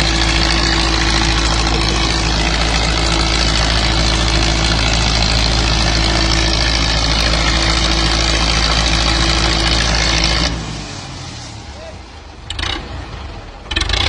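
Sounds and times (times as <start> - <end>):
tractor engine idling: 0.0 - 14.0.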